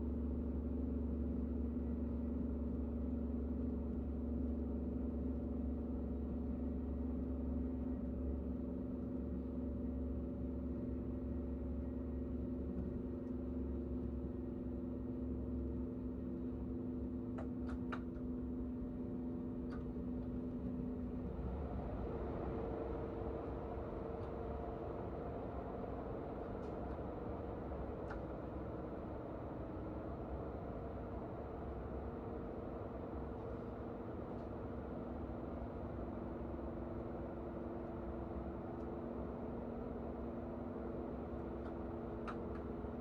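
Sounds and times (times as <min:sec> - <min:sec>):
train low rumble: 0:00.0 - 0:43.0.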